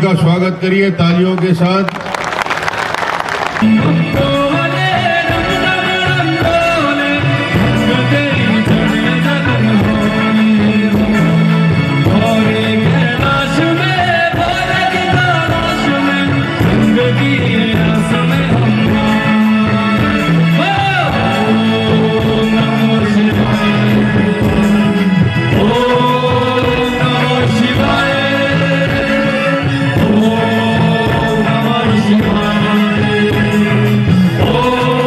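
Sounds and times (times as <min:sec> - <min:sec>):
keyboard: 0:00.0 - 0:35.0
drum kit: 0:03.3 - 0:35.0
male vocalist singing: 0:03.5 - 0:35.0.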